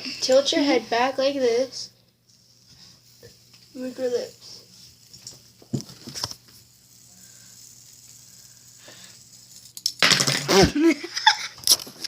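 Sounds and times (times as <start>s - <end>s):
fidget spinner clattering: 0.2s - 12.0s.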